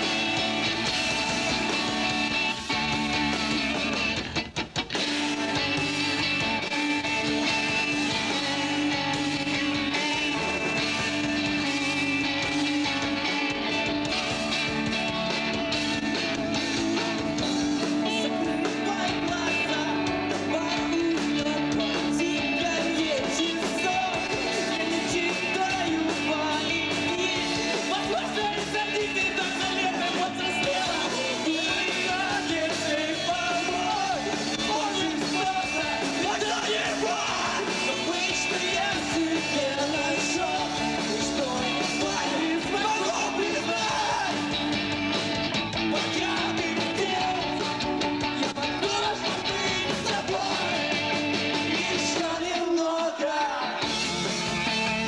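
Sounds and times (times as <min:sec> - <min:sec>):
rock band playing live: 0:00.0 - 0:55.0
person singing: 0:06.8 - 0:15.2, 0:15.8 - 0:44.6, 0:45.9 - 0:53.9.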